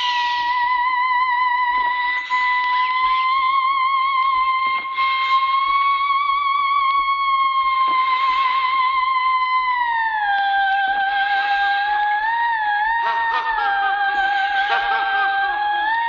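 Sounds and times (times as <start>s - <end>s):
eerie theremin-style wail: 0.0s - 16.0s.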